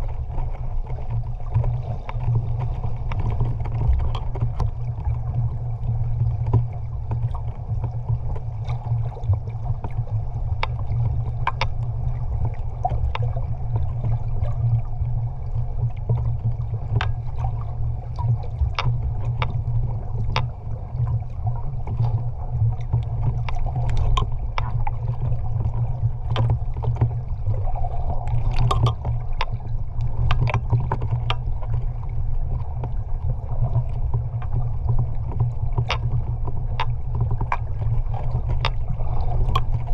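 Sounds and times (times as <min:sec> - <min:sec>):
underwater clicks and crackles: 0:00.0 - 0:39.9
underwater rumble of moving water: 0:00.0 - 0:39.9.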